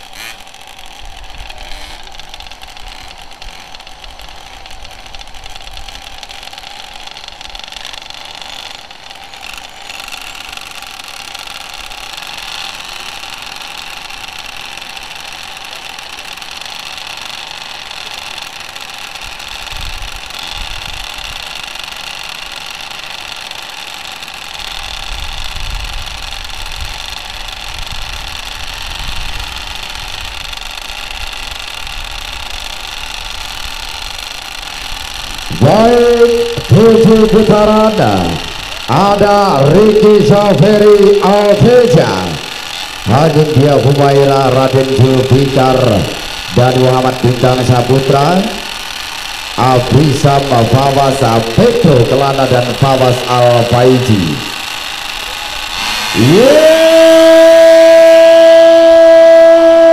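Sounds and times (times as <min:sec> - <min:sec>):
small motorcycle engines buzzing: 0:00.0 - 0:59.9.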